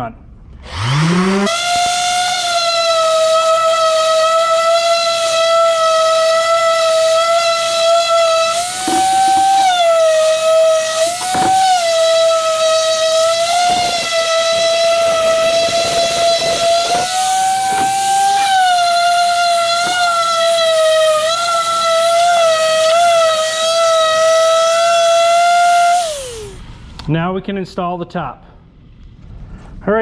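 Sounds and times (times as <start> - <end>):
power sander whining: 0.6 - 26.7
abrasive scratching wood: 0.7 - 26.6.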